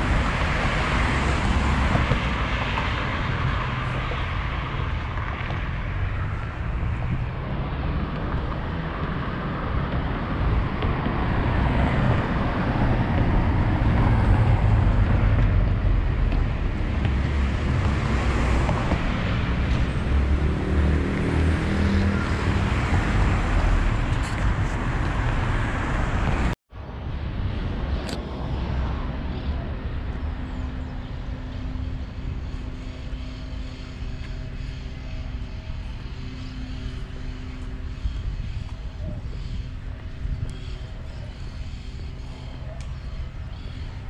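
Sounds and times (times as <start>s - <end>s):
vehicle road noise: 0.0s - 44.0s.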